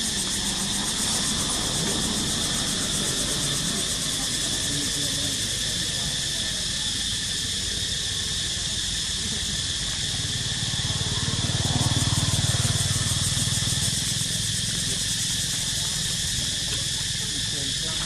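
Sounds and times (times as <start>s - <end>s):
insects droning in trees: 0.0s - 18.0s.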